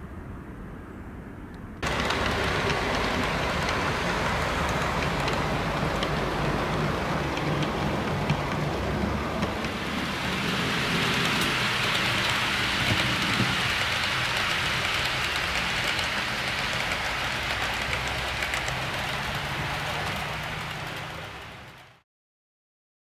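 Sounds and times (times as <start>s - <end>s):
model train motor hum: 1.8s - 21.9s
model wagons rattling on track: 1.8s - 22.0s.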